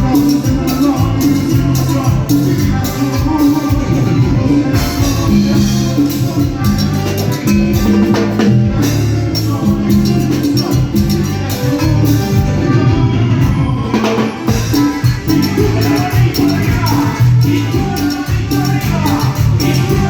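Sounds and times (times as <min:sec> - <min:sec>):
bass notes: 0:00.0 - 0:20.0
live band playing dance music: 0:00.0 - 0:20.0
steady drum beat: 0:00.0 - 0:20.0.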